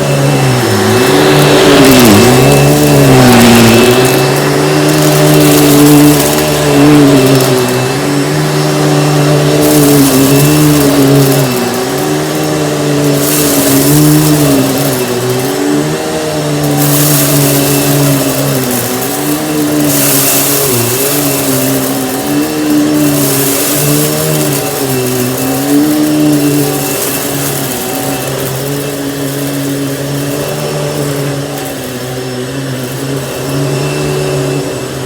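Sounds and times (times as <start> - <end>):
vacuum cleaner motor hum: 0.0 - 35.0.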